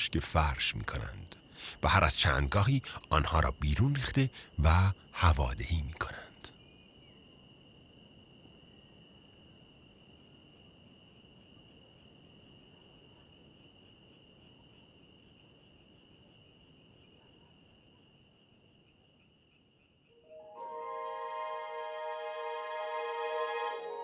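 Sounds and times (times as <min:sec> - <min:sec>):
crickets trilling: 0:00.0 - 0:22.0
background hiss: 0:00.0 - 0:24.0
faint cricket chirp: 0:00.0 - 0:24.0.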